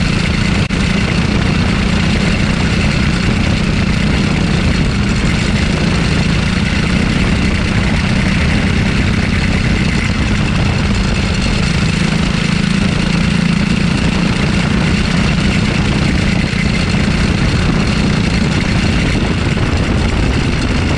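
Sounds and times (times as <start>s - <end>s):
kart engine running: 0.0s - 20.9s.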